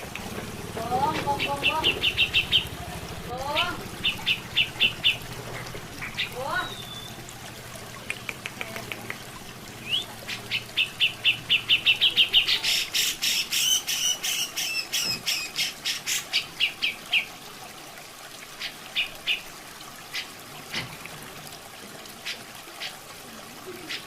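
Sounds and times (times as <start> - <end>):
trickling water: 0.0 - 24.0.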